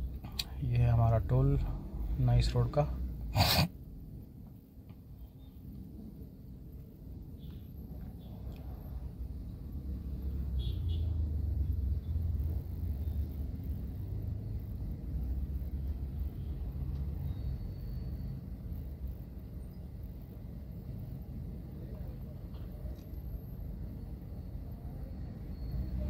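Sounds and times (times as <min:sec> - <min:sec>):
car engine and tyre rumble inside: 0:00.0 - 0:26.0.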